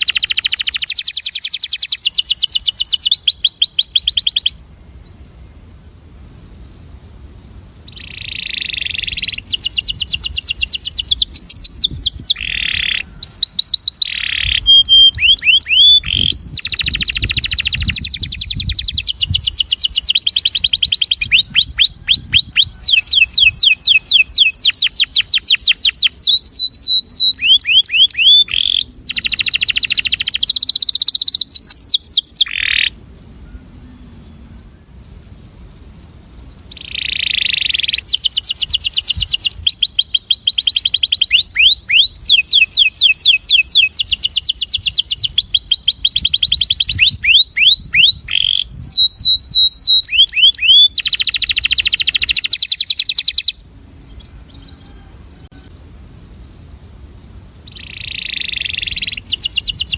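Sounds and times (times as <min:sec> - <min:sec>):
canary singing trilled phrases: 0:00.0 - 0:04.6, 0:07.8 - 0:33.0, 0:35.8 - 0:55.0, 0:57.7 - 0:59.9.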